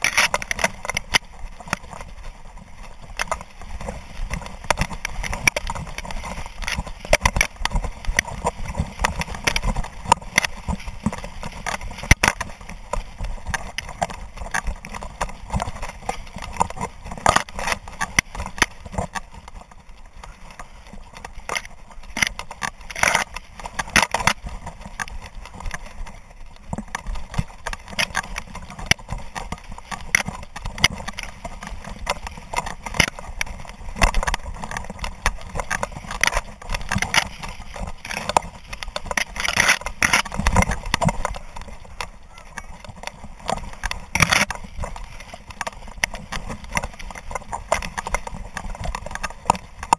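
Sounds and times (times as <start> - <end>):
grass brushing against camera: 0.0 - 49.9.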